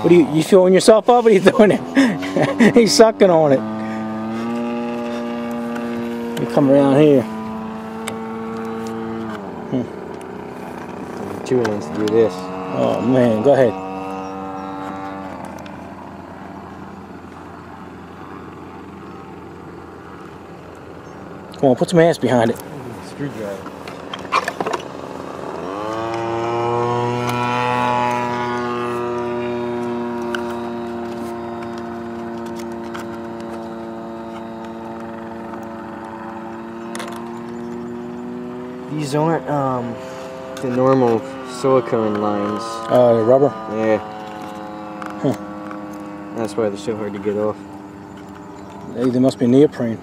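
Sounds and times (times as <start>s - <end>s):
motor hum: 0.0s - 50.0s.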